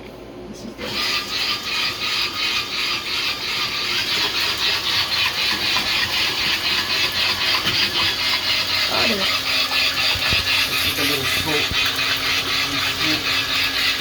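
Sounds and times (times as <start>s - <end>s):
propeller whirring in water: 0.8s - 14.0s.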